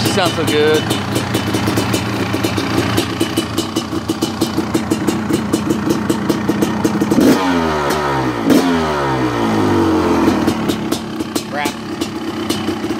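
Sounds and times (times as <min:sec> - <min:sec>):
dirt bike idling with popping exhaust: 0:00.0 - 0:12.9.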